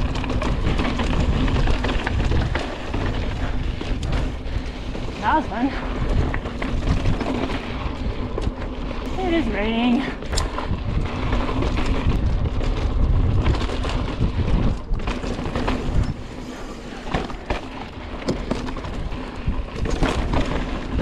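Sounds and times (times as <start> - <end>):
bike clicking and rattling: 0.0 - 21.0
bike tyres on dirt trail: 0.0 - 21.0
wind buffeting microphone: 0.0 - 21.0.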